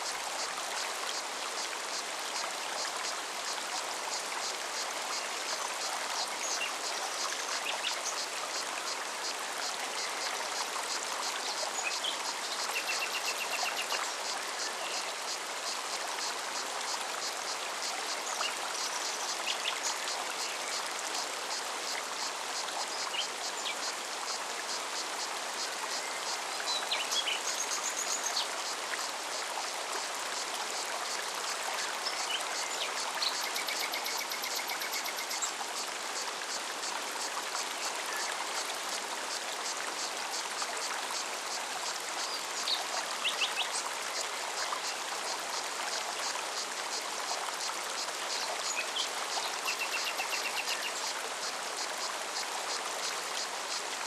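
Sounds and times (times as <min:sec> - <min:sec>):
forest stream running: 0:00.0 - 0:54.0.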